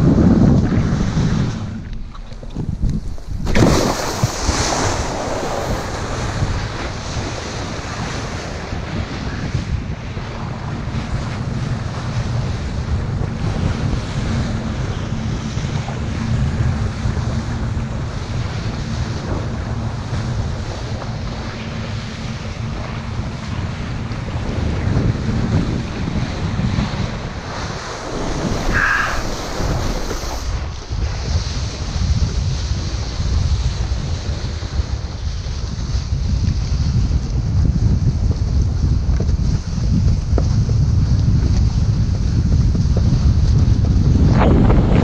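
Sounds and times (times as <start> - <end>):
water spraying under kiteboard: 0.0 - 45.0
wind buffeting microphone: 0.0 - 45.0.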